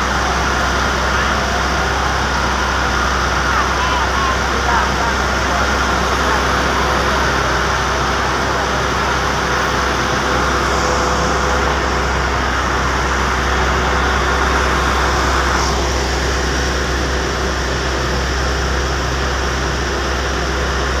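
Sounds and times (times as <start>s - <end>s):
fire engine pump humming: 0.0s - 21.0s
water rushing: 0.0s - 21.0s.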